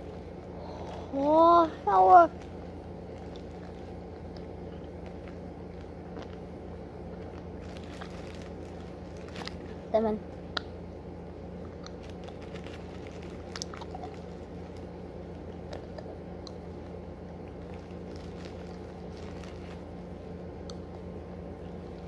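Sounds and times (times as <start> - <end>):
child chewing candy: 0.0 - 9.8, 11.6 - 20.0
steady low hum: 0.0 - 22.0.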